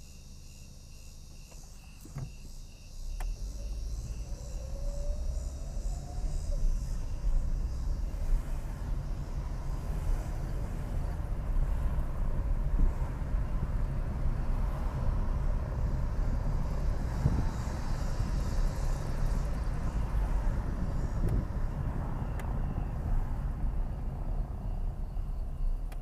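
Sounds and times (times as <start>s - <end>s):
car driving on road: 0.0s - 26.0s
road and wind noise: 0.0s - 26.0s.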